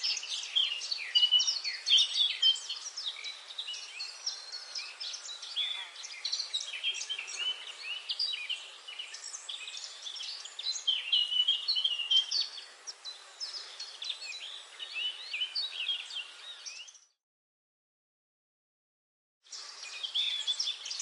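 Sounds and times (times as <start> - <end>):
birds chirping in chorus: 0.0 - 17.2, 19.5 - 21.0.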